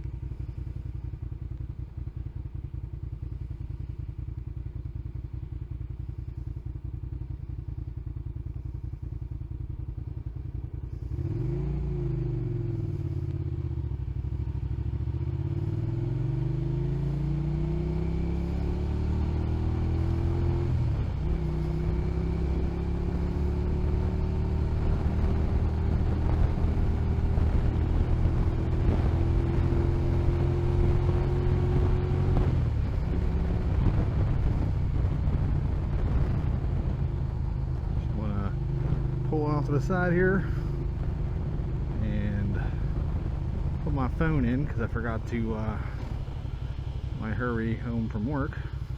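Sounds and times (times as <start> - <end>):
motorcycle engine accelerating: 0.3 - 48.9.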